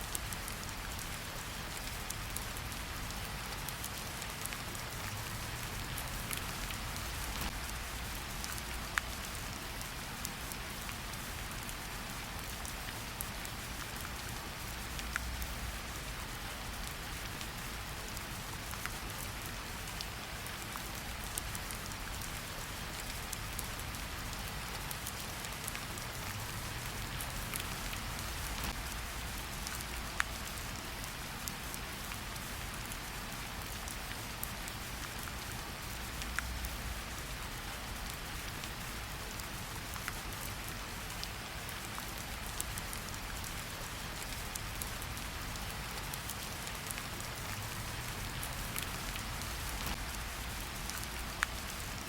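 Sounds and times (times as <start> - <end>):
rain hissing in a forest: 0.0 - 52.0.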